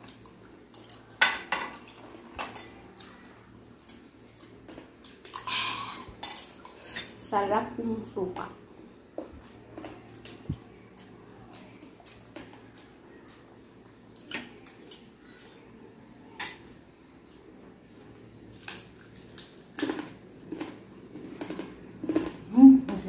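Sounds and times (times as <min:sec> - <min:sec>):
quiet eating: 0:00.0 - 0:23.0.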